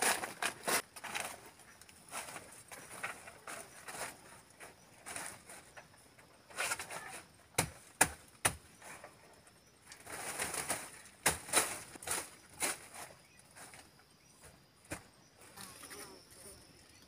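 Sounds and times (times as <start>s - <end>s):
dry forest litter rustling: 0.0s - 7.9s, 8.7s - 17.0s
faint high insect drone: 0.0s - 17.0s.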